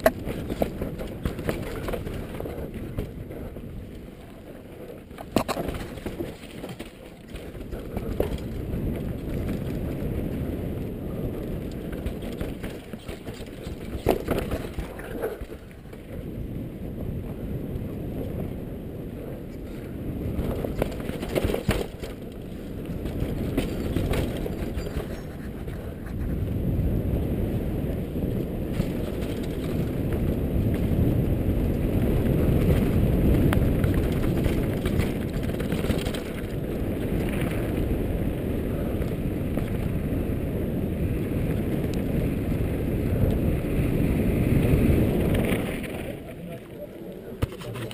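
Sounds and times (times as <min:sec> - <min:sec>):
bike rattling: 0:00.0 - 0:47.9
bike tyres rolling over dirt: 0:00.0 - 0:47.9
wind on microphone: 0:00.0 - 0:47.9.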